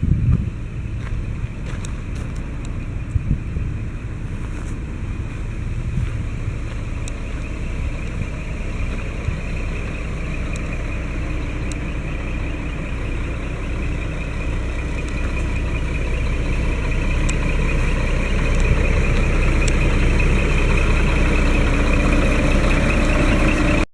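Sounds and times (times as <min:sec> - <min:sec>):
truck diesel engine running: 0:00.0 - 0:23.9.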